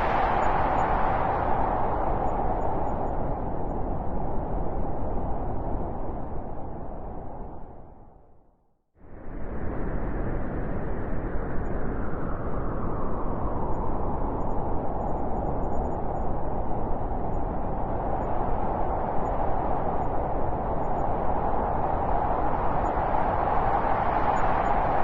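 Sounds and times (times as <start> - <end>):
wind blowing: 0.0 - 8.3, 9.1 - 25.0.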